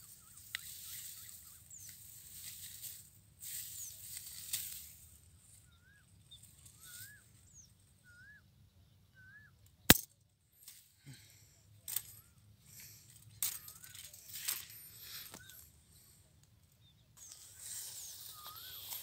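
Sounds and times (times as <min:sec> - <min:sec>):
rustling in dry stubble: 0:00.0 - 0:08.0, 0:10.6 - 0:19.0
faint high chirps: 0:00.0 - 0:09.8, 0:12.0 - 0:19.0.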